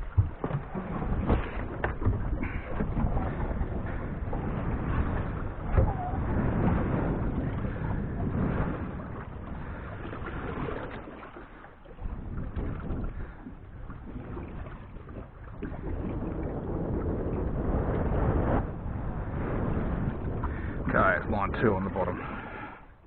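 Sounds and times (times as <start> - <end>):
water sounds at boat: 0.0 - 23.0
wind buffeting microphone: 0.0 - 23.0.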